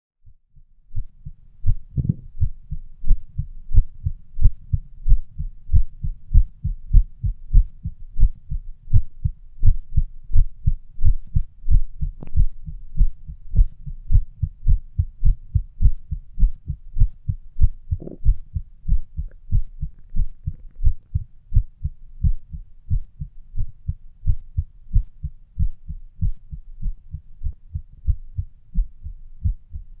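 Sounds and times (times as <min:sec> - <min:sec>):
fast heartbeat thumps: 0:00.2 - 0:29.9.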